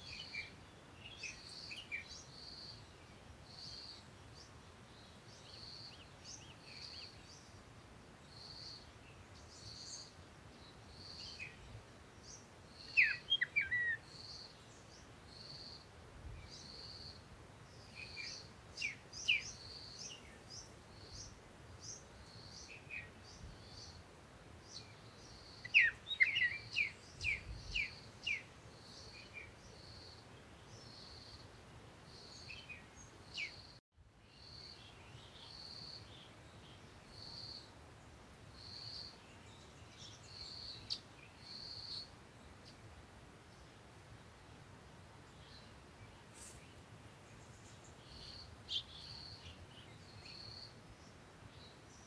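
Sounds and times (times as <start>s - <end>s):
small birds chirping: 0.0s - 43.8s, 45.2s - 52.0s.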